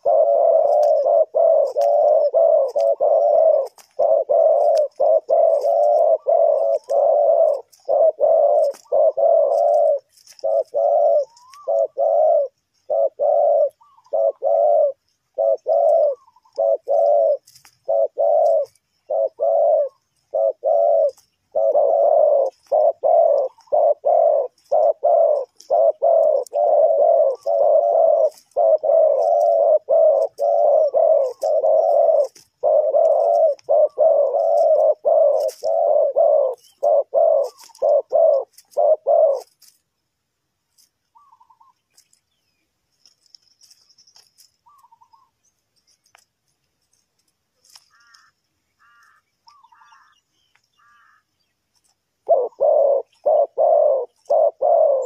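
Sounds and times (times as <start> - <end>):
doves cooing: 0.0 - 40.0, 43.0 - 55.0.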